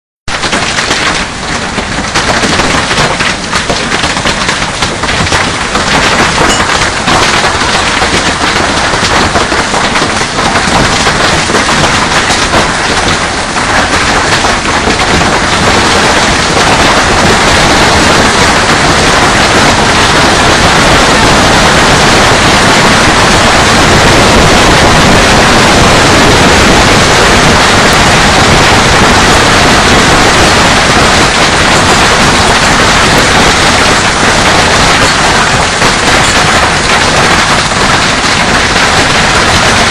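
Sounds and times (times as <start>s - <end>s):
hail pounding down: 0.3s - 39.9s.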